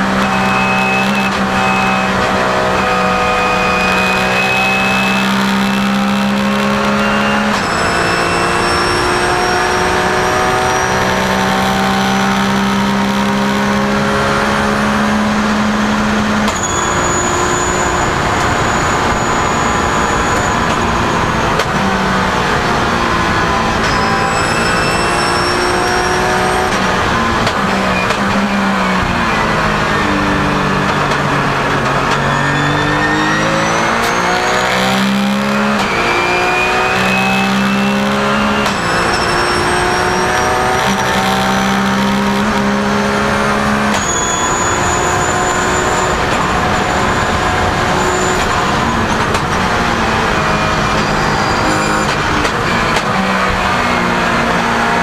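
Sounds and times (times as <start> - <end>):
race car engine upshifting: 0.0 - 55.0
road and wind noise: 0.0 - 55.0.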